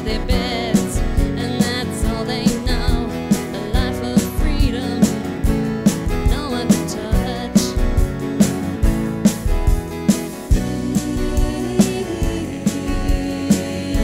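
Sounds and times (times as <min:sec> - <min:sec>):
acoustic country-folk band music: 0:00.0 - 0:14.0.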